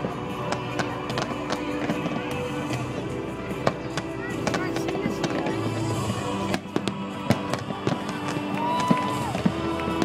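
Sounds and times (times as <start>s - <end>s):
fireworks bangs and crackles: 0.0s - 10.0s
music playing: 0.0s - 10.0s.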